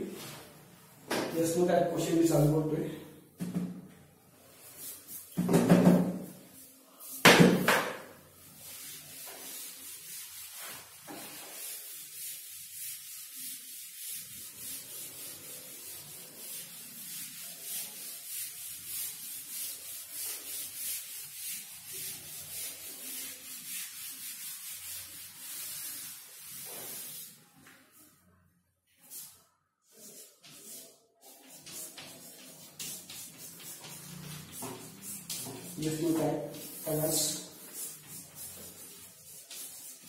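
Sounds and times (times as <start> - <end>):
duster wiping chalkboard: 4.4 - 28.3, 28.9 - 40.0.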